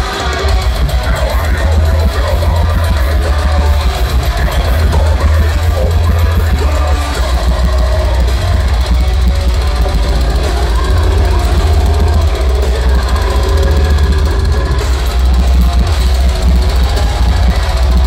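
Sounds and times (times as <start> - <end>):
bass: 0.0 - 18.0
distorted guitars: 0.0 - 18.0
drums: 0.0 - 18.0.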